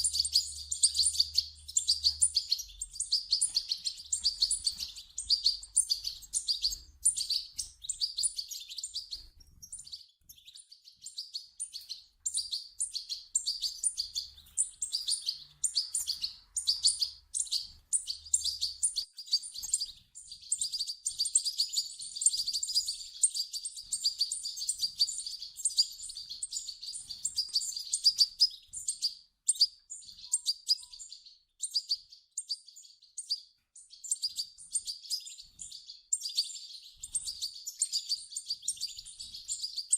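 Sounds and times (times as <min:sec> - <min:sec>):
chicks chirping rapidly: 0:00.0 - 0:39.9.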